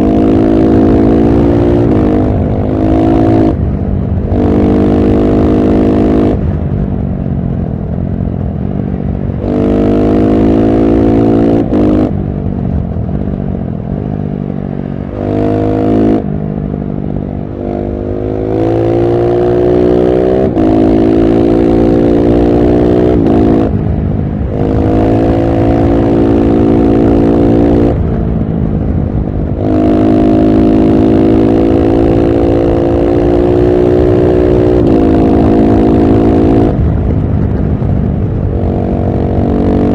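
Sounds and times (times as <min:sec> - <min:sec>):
motorcycle engine revving: 0:00.0 - 0:06.7, 0:09.0 - 0:39.9.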